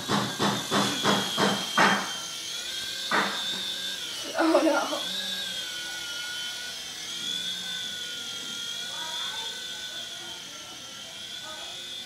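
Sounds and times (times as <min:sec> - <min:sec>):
toy helicopter motor whining: 0:00.0 - 0:12.0.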